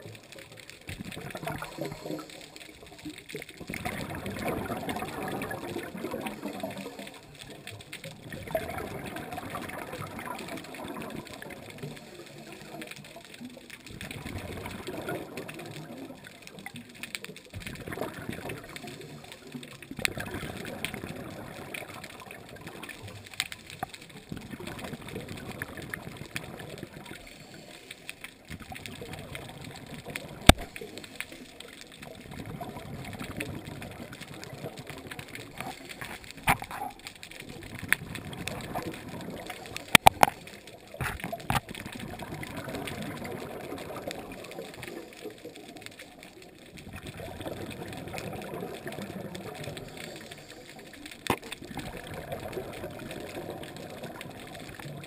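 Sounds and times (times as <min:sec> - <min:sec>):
underwater rushing and bubbling: 0:00.0 - 0:55.0.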